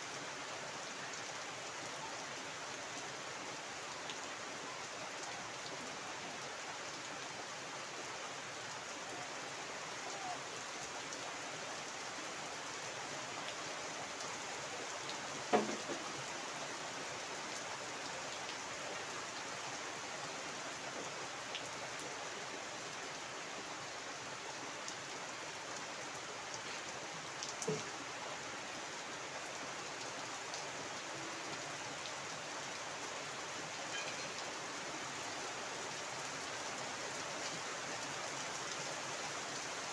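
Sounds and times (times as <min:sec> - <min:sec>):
heavy rain on standing water: 0:00.0 - 0:39.9.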